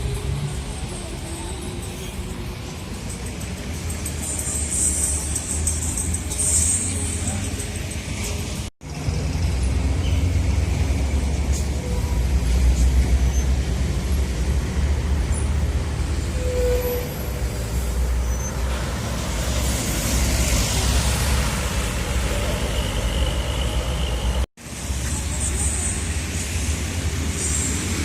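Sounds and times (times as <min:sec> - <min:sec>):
heavy traffic engine rumble: 0:00.0 - 0:28.0.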